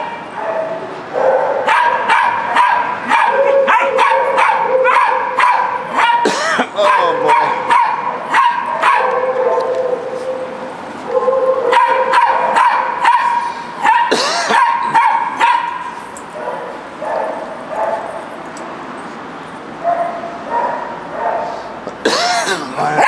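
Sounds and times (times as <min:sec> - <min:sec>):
dogs barking and yipping: 0:00.0 - 0:19.0, 0:19.7 - 0:21.8.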